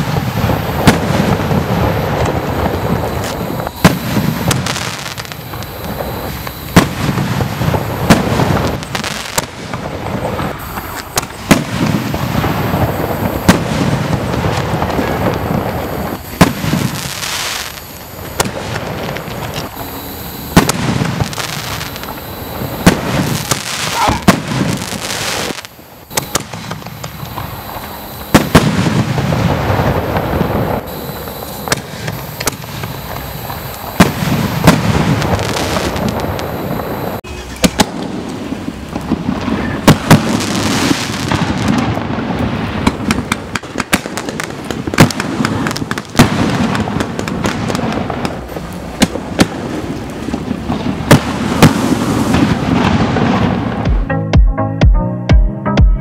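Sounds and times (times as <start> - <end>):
firework shells booming: 0.0 - 53.8
crackling firework pops: 0.0 - 54.1.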